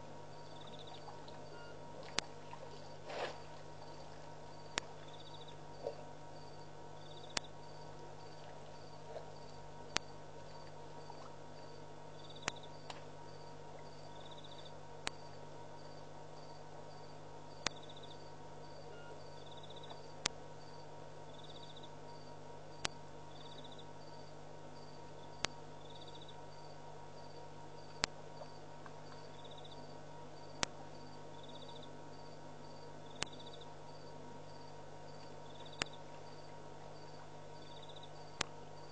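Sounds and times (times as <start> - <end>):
low steady hum: 0.0 - 38.9
crickets trilling: 0.1 - 38.9.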